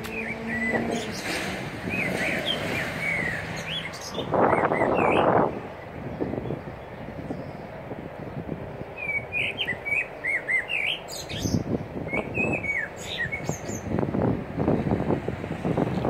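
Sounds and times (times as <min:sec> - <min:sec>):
songbirds chirping: 0:00.0 - 0:15.1
wind rumbling on microphone: 0:00.0 - 0:16.0.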